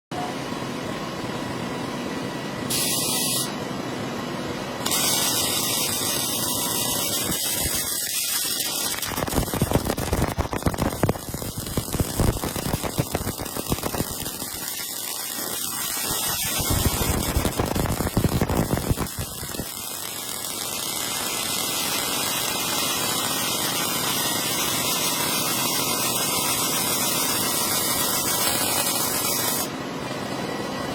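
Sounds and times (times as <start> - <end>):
hissing machine: 2.6 - 3.6, 4.8 - 30.4.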